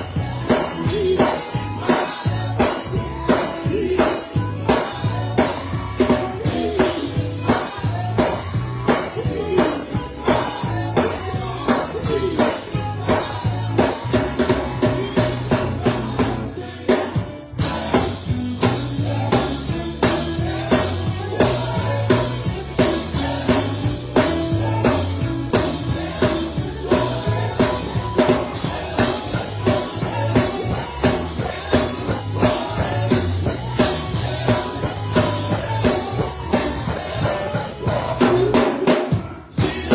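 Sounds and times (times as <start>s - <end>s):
bass line: 0.0s - 16.8s, 17.4s - 38.7s, 39.6s - 39.9s
drum kit beat: 0.0s - 39.9s.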